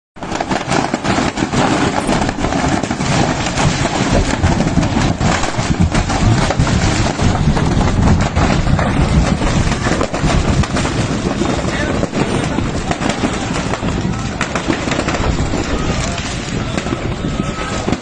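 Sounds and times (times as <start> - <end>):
fireworks crackling: 0.2 - 18.0.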